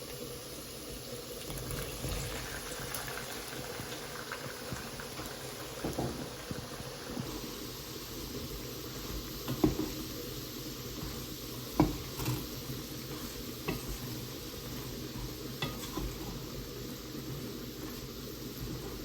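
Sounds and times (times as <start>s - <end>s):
low sizzle: 0.0s - 19.0s
food stirred in a pan: 1.4s - 19.0s.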